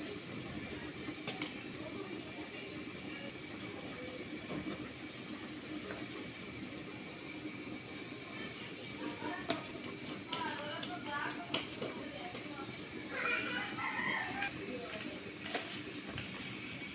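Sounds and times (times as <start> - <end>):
battered slices sizzling in oil: 0.0 - 16.9.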